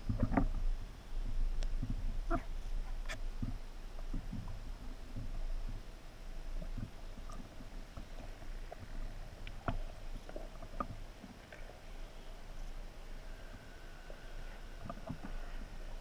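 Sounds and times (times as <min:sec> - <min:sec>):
underwater rumble of moving water: 0:00.0 - 0:16.0.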